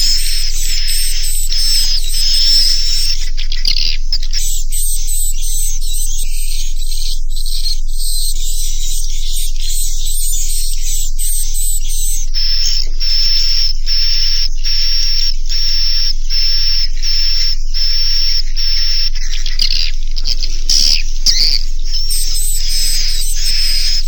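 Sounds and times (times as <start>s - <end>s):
bird twittering: 0.0s - 24.0s
buzzy bird chirps: 0.0s - 24.0s
steady low hum: 0.0s - 24.0s.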